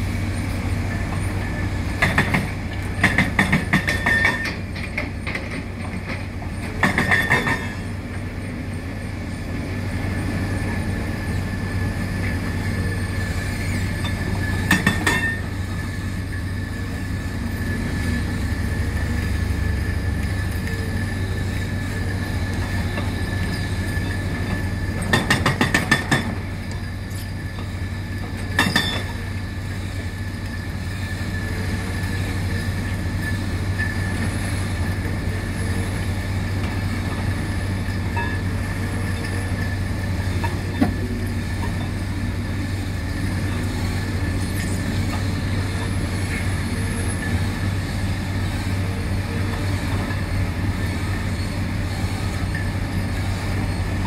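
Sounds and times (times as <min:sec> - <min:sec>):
excavator diesel engines running: 0:00.0 - 0:54.0.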